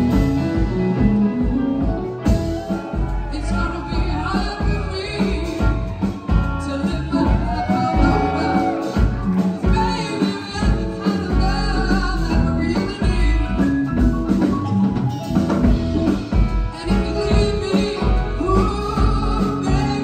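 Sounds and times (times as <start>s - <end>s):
person singing: 0.0s - 14.0s, 16.1s - 20.0s
bass: 0.0s - 20.0s
drum kit: 0.0s - 20.0s
electric guitars: 0.0s - 20.0s
keyboard: 0.0s - 20.0s.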